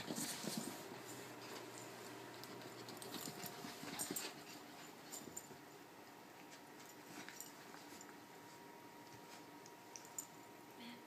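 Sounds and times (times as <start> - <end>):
puppy playing: 0.0 - 10.6.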